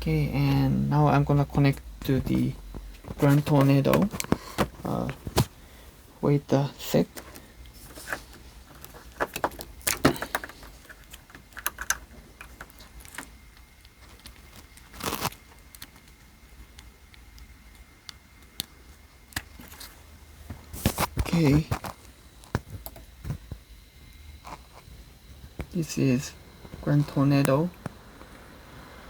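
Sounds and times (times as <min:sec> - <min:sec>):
computer fans and cables rattling: 0:00.0 - 0:29.0.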